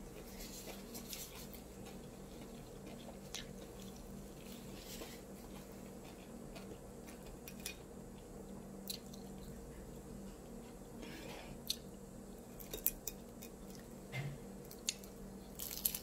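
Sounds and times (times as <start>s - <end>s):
faint steady hum: 0.0s - 16.0s
person chewing quietly: 0.0s - 16.0s.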